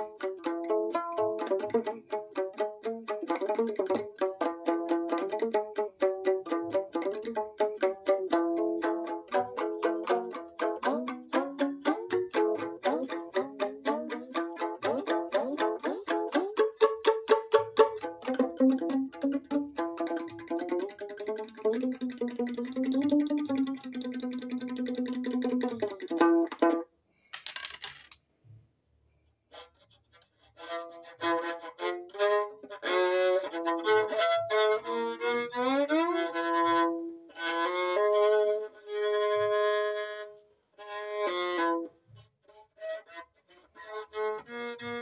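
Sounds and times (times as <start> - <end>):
bowed violin: 0.0 - 26.9, 29.5 - 45.0.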